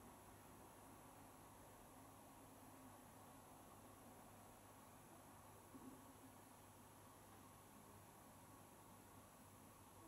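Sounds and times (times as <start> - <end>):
faint steady hum and hiss: 0.0 - 10.0.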